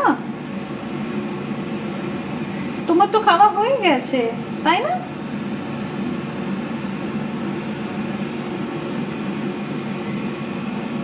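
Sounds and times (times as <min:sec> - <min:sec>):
air fryer fan whirring: 0:00.0 - 0:11.0.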